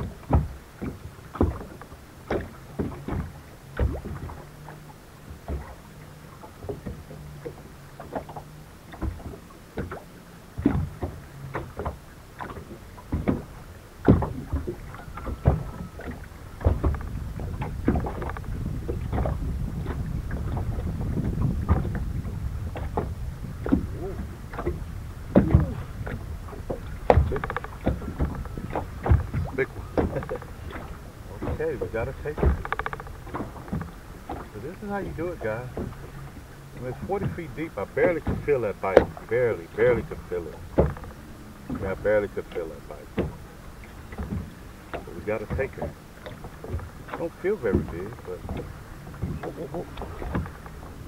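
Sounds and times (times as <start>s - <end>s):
waves slapping against boat hull: 0.0s - 51.0s.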